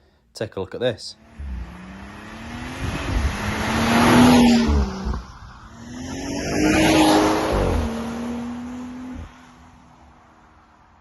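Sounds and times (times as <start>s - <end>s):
car driving past: 1.2s - 10.0s.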